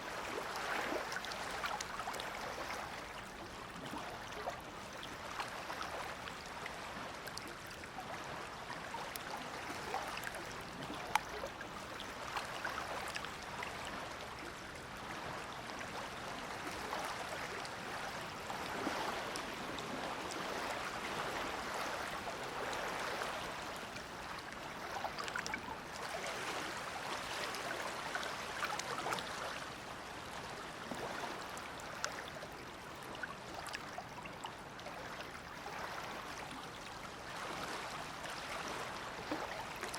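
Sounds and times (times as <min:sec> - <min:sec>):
water drips and splashes: 0:00.0 - 0:39.9
water lapping at shore: 0:00.0 - 0:39.9.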